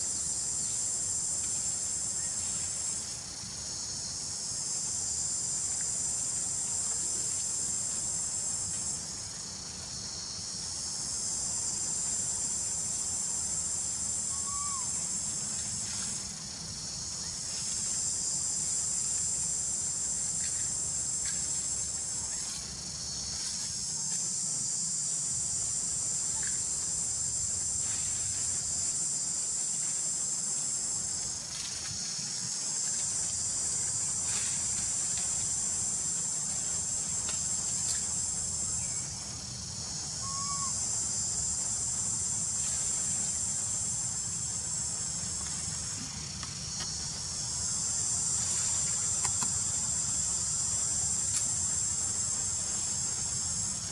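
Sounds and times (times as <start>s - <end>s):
high-pitched insect chorus buzzing: 0.0s - 53.9s.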